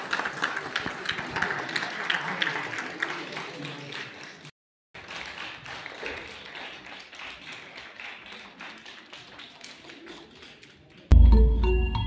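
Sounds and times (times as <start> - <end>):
hands clapping: 0.0 - 11.2.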